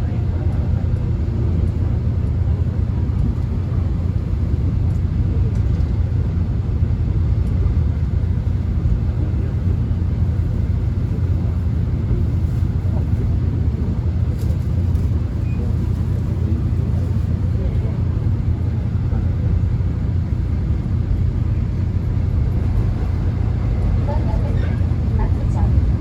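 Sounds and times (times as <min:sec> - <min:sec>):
subway car rumbling: 0:00.0 - 0:26.0.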